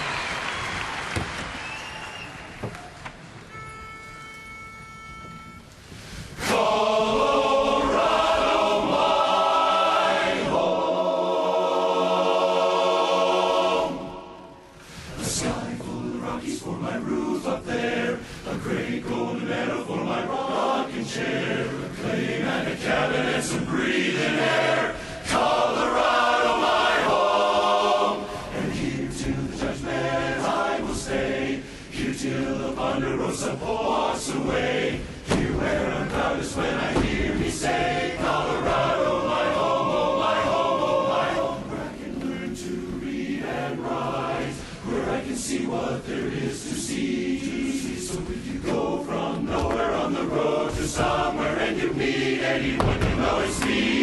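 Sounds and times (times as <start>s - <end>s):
barbershop chorus singing: 6.4s - 54.0s.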